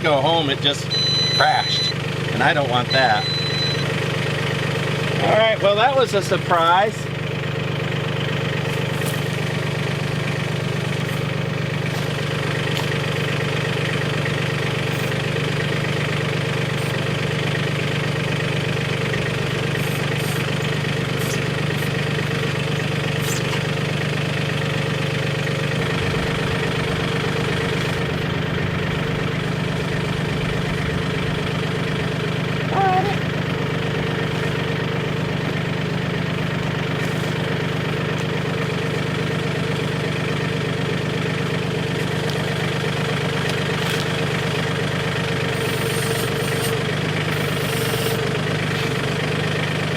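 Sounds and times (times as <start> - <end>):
tractor diesel engine idling: 0.0 - 49.9.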